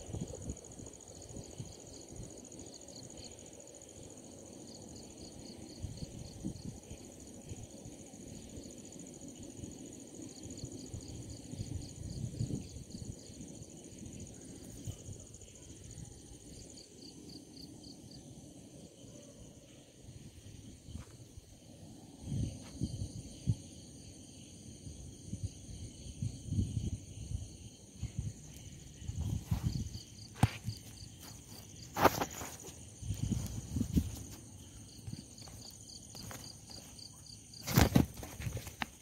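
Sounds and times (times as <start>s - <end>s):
night insects chirping: 0.0s - 39.0s.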